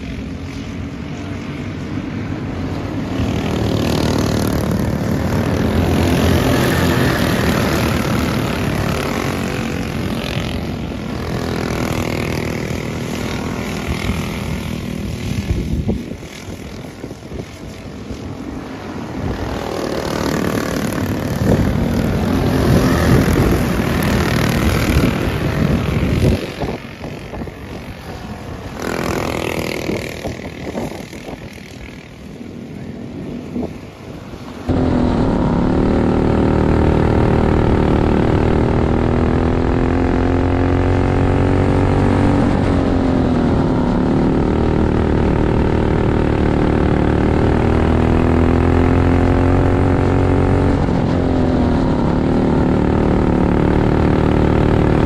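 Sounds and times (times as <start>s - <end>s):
racing kart engines passing: 0.0s - 55.0s
kart engine heard on board: 2.0s - 55.0s.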